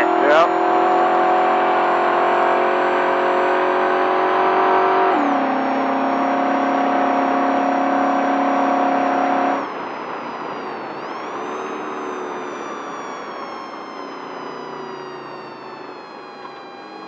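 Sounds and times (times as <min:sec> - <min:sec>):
truck engine running hard: 0:00.0 - 0:17.0.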